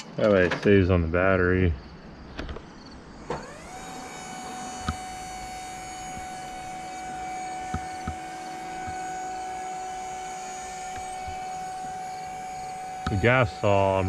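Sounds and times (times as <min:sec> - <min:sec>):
electric hydraulic pump whine: 0:01.8 - 0:14.0.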